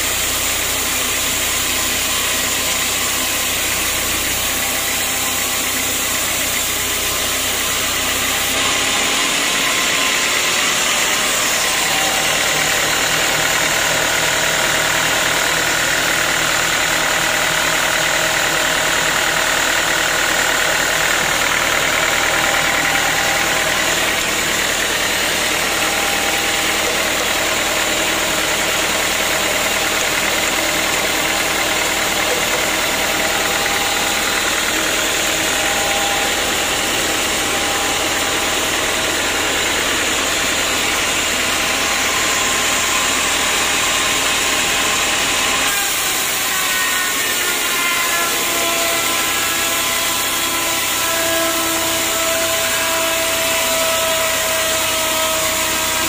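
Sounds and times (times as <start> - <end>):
band saws cutting wood: 0.0 - 56.0.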